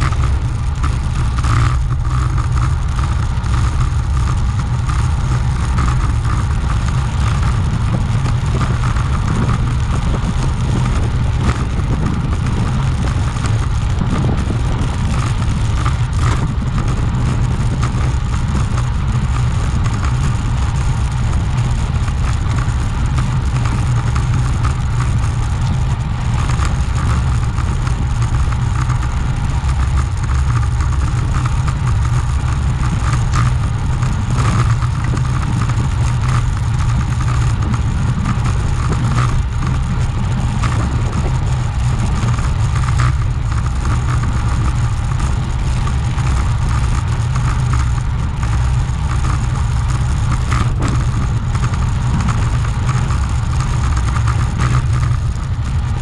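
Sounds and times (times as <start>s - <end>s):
bicycle road noise: 0.0s - 56.0s
wind roar over microphone: 0.0s - 56.0s.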